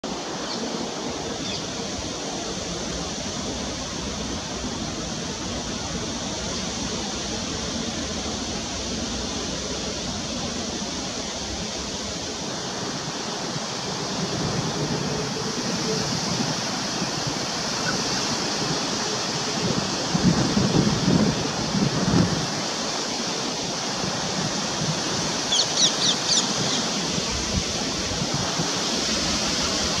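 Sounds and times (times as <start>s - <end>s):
wind through tree leaves: 0.0s - 30.0s.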